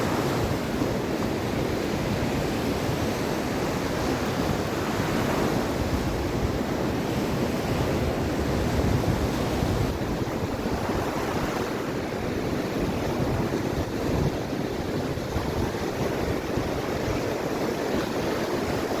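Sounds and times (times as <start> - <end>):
sea waves washing onto shore: 0.0 - 19.0
wind on microphone: 0.0 - 19.0.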